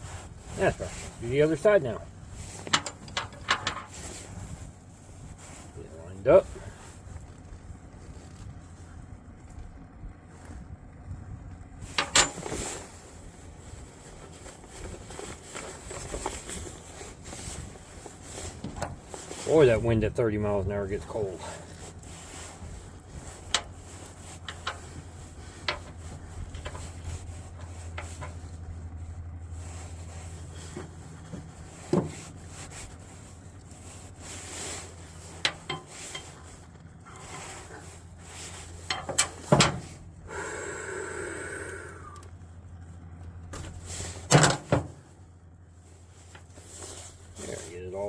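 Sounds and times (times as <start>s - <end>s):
rubbing and scraping cable: 0.0s - 40.2s, 45.8s - 48.0s
steady low hum: 0.0s - 48.0s.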